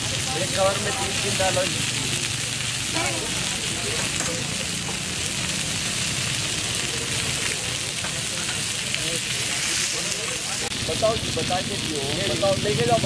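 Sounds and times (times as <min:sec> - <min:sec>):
chicken sizzling on a griddle: 0:00.0 - 0:13.0.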